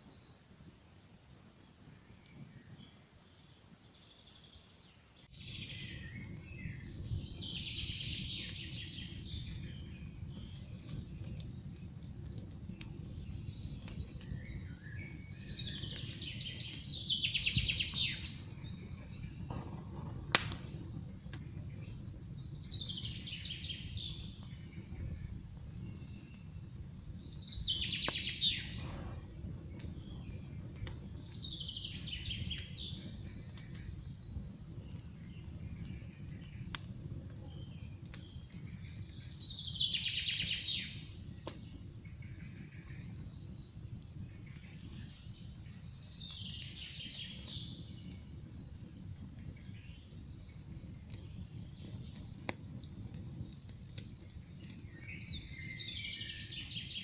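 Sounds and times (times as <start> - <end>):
songbirds singing: 0.0 - 57.0
campfire crackling and popping: 5.2 - 57.0.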